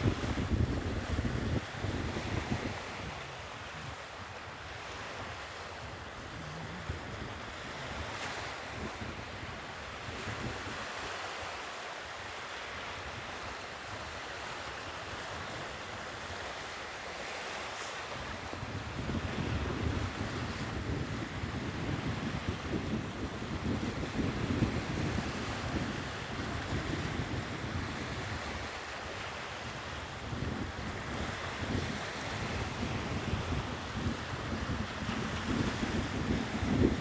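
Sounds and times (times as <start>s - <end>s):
sea surf washing onto shore: 0.0s - 37.0s.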